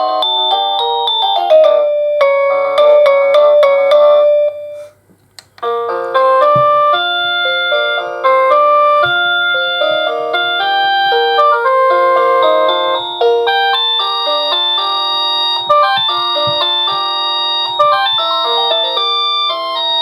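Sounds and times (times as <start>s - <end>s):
doorbell chime melodies: 0.0s - 4.9s, 5.6s - 20.0s.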